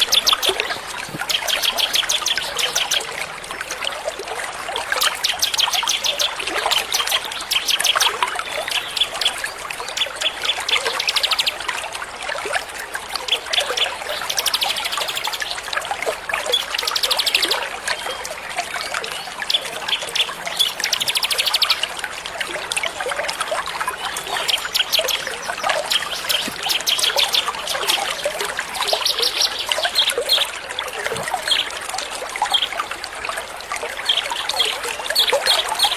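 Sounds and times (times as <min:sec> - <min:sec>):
songbirds chirping and trilling: 0:00.0 - 0:04.1, 0:04.9 - 0:11.7, 0:13.3 - 0:15.7, 0:16.5 - 0:22.3, 0:23.2 - 0:35.9
water trickling: 0:00.0 - 0:35.9.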